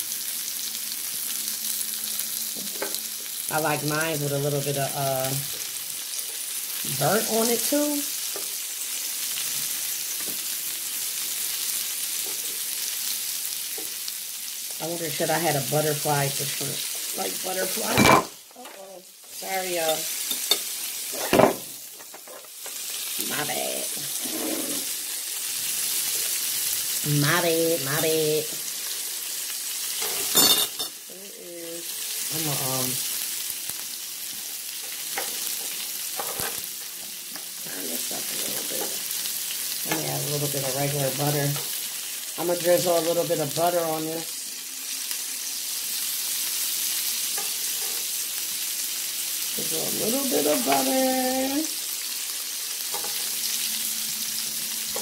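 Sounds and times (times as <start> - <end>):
seafood sizzling on a grill plate: 0.0 - 55.0.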